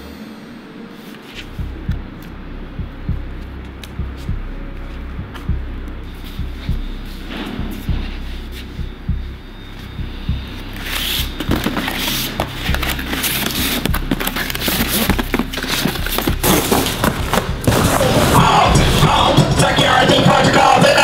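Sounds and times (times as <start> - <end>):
background music with steady beat: 0.0 - 21.0.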